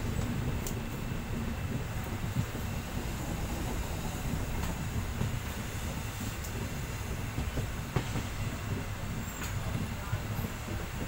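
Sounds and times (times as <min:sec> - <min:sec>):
train wheels rumbling on track: 0:00.0 - 0:11.0
wheels clacking over track joints: 0:00.0 - 0:11.0.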